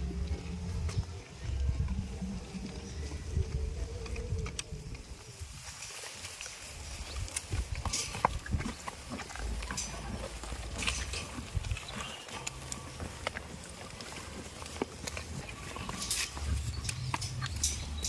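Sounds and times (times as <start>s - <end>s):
goat hooves clicking and knocking: 0.0s - 18.0s
rustling: 1.9s - 18.0s.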